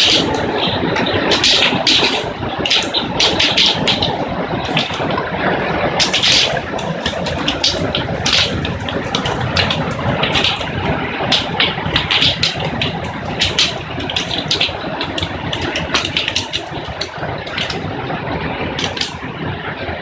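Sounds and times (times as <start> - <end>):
hail pelting down: 0.0 - 20.0.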